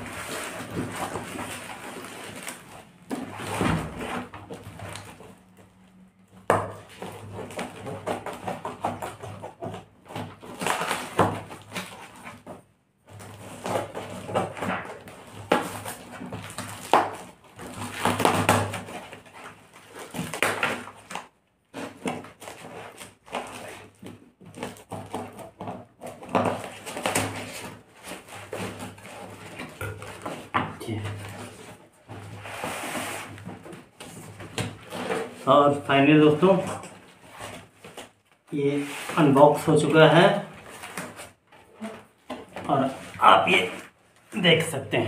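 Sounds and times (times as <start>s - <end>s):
plastic wrap and tape crinkling: 0.0s - 45.0s.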